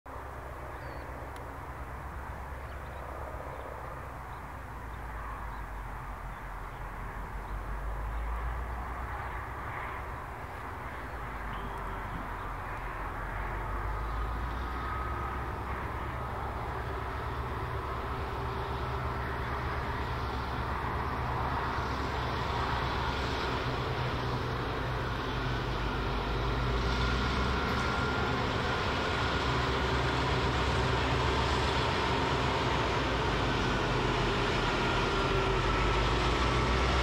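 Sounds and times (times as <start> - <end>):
distant diesel locomotives droning: 0.1 - 37.0.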